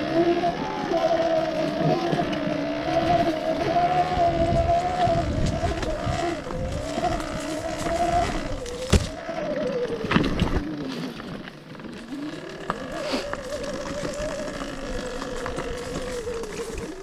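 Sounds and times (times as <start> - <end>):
electric motorcycle motor whine: 0.0 - 17.0.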